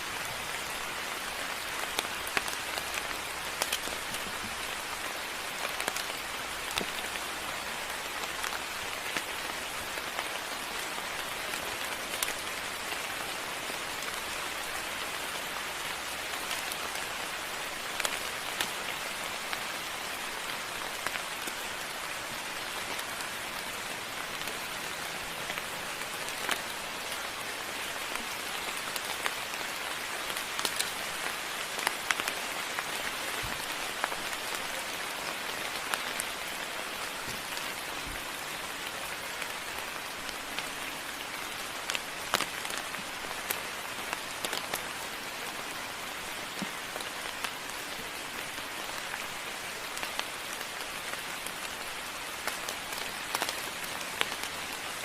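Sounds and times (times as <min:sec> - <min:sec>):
rain falling: 0:00.0 - 0:55.0
raindrops striking close by: 0:00.0 - 0:55.0.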